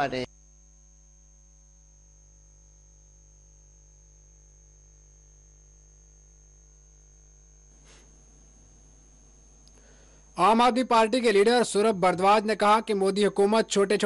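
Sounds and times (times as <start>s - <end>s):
thin high whine: 0.0s - 12.2s
faint steady hum: 0.0s - 14.0s.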